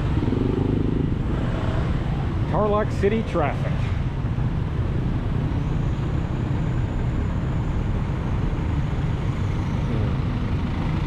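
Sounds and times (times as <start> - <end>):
diesel engines and street traffic: 0.0 - 11.0.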